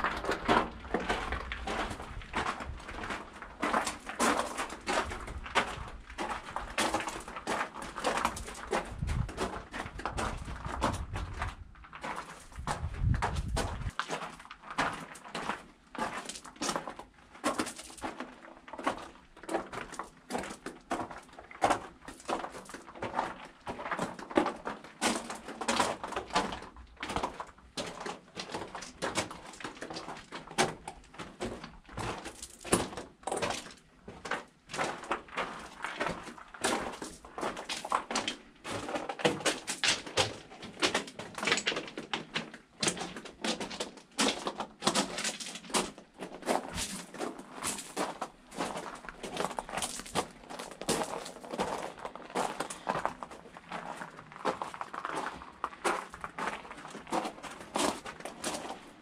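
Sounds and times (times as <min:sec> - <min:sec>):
footsteps on gritty path: 0:00.0 - 0:59.0.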